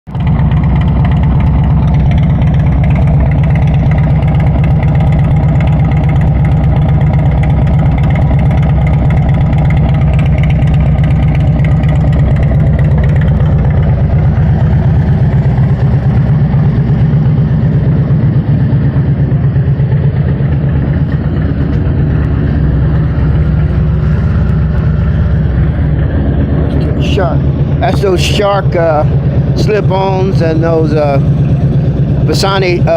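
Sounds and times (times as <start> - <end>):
motorcycle engine idling: 0.1 - 32.9.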